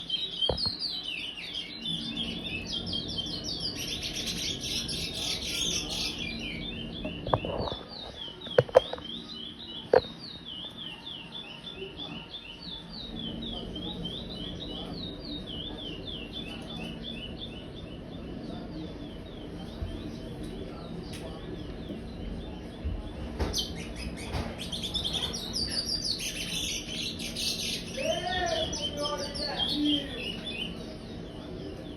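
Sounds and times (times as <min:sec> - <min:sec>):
finch singing: 0:00.0 - 0:31.9.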